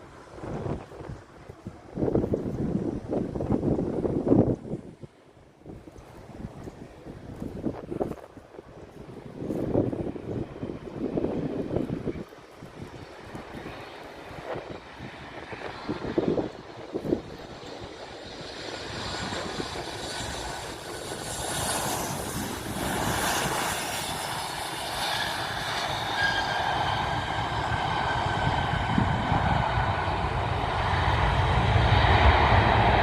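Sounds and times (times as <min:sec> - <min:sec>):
aircraft engines approaching: 0:00.0 - 0:33.0.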